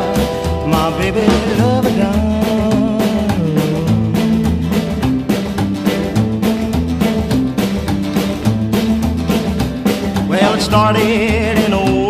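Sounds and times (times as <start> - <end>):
bass line: 0.0 - 12.0
steady drum beat: 0.0 - 12.0.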